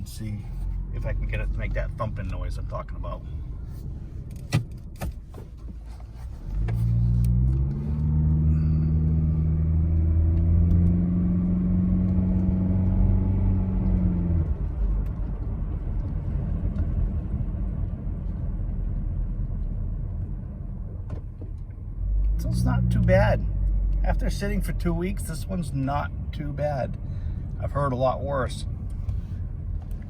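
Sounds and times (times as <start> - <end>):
car engine accelerating: 0.0 - 30.0
tyres rumbling on road: 0.0 - 30.0.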